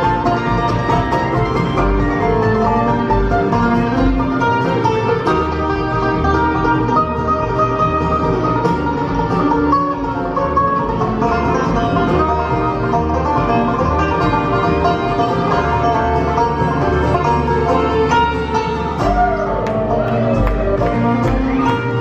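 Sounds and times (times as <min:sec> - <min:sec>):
acoustic guitar: 0:00.0 - 0:22.0
banjo: 0:00.0 - 0:22.0
fiddle: 0:00.0 - 0:22.0
mandolin: 0:00.0 - 0:22.0
upright bass: 0:00.0 - 0:22.0.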